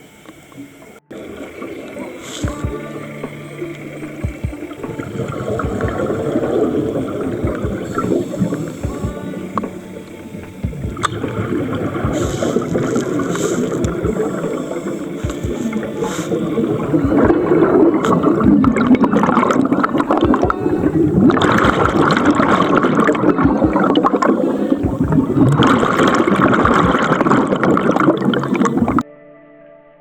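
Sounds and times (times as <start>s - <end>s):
water gurgling and splashing: 0.0s - 29.0s.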